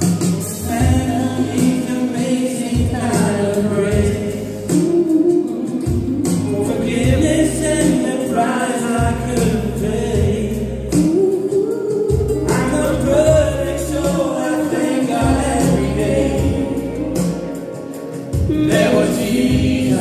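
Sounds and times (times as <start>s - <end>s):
musical accompaniment with bass: 0.0s - 20.0s
people singing worship song: 0.3s - 20.0s.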